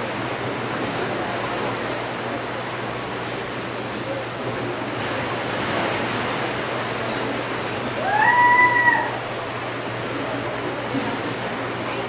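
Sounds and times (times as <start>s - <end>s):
gentle surf on beach: 0.0s - 12.0s.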